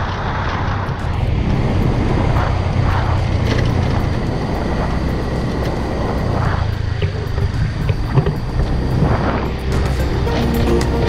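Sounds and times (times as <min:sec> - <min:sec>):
motorbike engine running: 0:00.0 - 0:11.0
wind rushing over microphone: 0:00.0 - 0:11.0.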